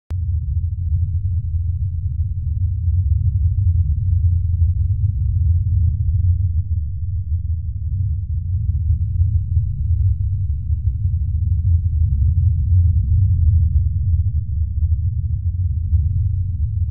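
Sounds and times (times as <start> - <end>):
deep low rumble drone: 0.1 - 16.9.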